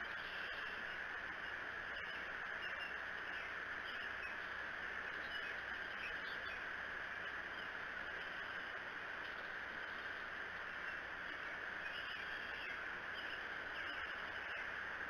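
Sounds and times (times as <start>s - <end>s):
faint bird chirps: 0.0s - 14.8s
steady outdoor hiss: 0.0s - 15.0s.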